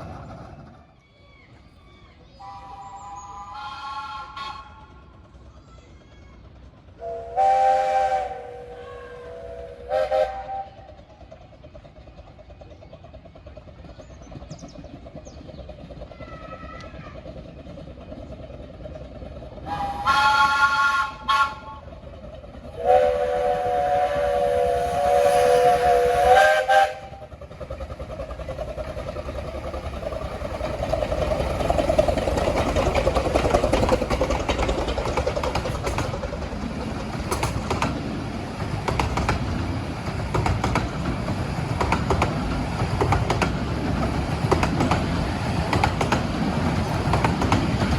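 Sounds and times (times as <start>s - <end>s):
train running past: 0.0s - 47.9s.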